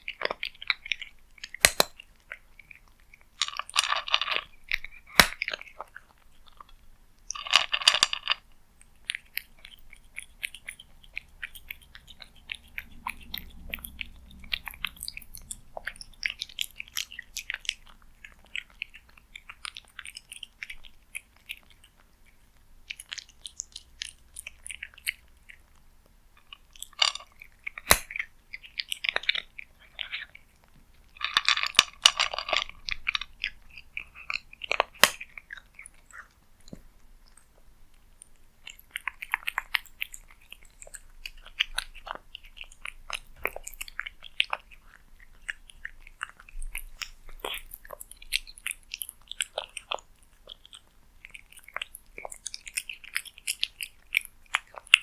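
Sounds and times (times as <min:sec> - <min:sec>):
cat chewing food: 0:00.0 - 0:55.0.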